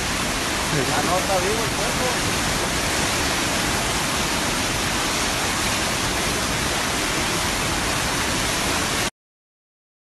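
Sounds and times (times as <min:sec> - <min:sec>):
floodwater rushing: 0:00.0 - 0:09.1.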